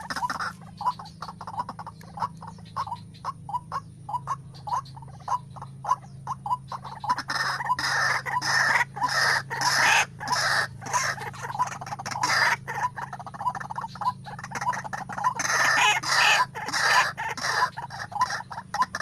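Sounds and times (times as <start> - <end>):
steady low hum: 0.0 - 19.0
waterhen calling: 0.0 - 19.0.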